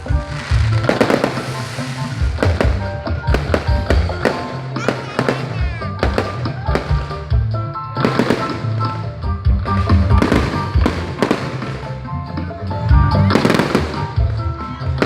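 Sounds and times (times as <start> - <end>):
fireworks banging and crackling: 0.0 - 15.0
loud music with steady bass: 0.0 - 15.0.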